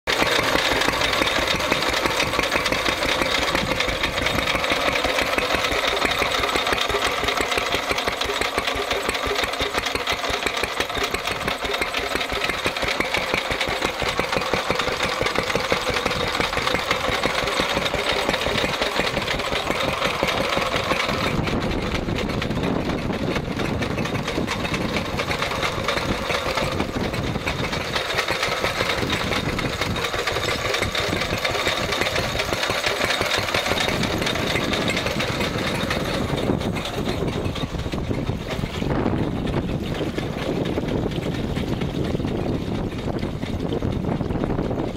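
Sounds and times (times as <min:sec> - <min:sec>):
stationary engine running: 0:00.0 - 0:44.9.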